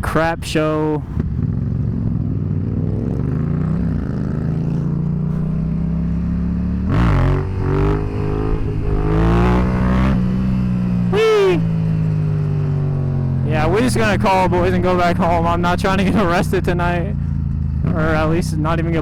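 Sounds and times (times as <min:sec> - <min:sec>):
motorcycle engine running: 0:01.2 - 0:19.0.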